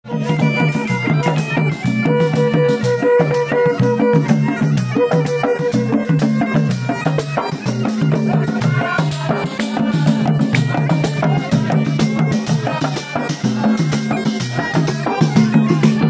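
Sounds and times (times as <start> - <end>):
reedy wind instrument melody: 0.1 - 16.0.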